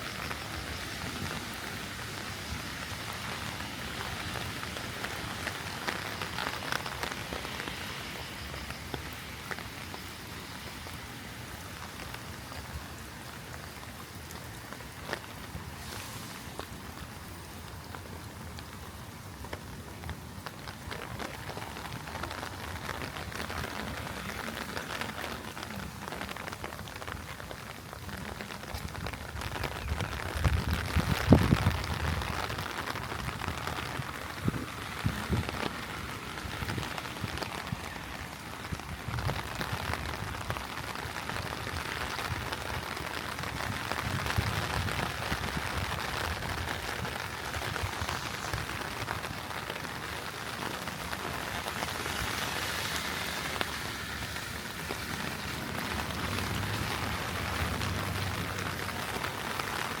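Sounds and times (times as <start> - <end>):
heavy rain on street: 0.0 - 60.0.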